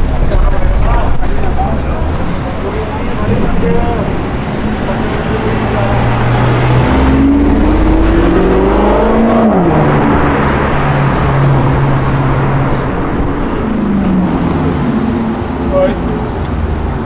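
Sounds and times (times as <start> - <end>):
car engine accelerating: 0.0 - 17.0
street traffic: 0.0 - 17.0.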